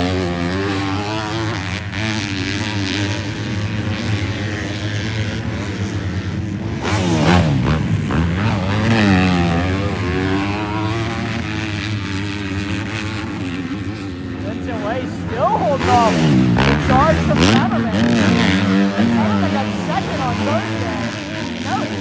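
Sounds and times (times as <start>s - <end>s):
motocross bikes racing past: 0.0s - 22.0s.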